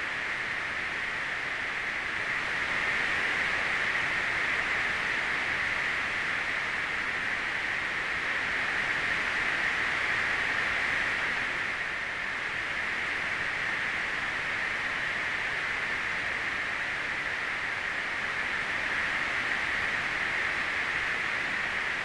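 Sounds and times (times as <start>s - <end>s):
steady high hissing noise: 0.0s - 22.0s.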